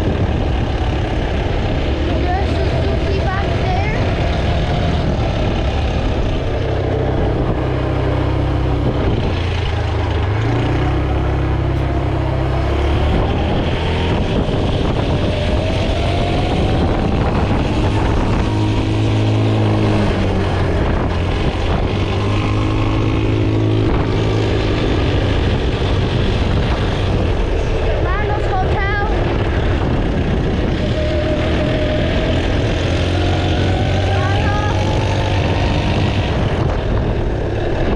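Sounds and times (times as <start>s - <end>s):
rising whine: 0.0s - 37.9s
vehicle engine running: 0.0s - 37.9s.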